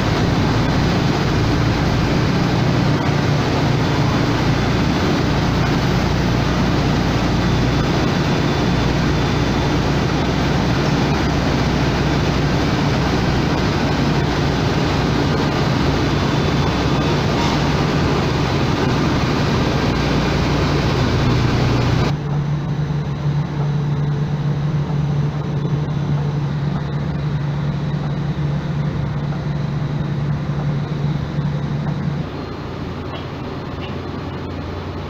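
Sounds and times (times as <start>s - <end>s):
industrial machinery hum: 0.0s - 35.0s.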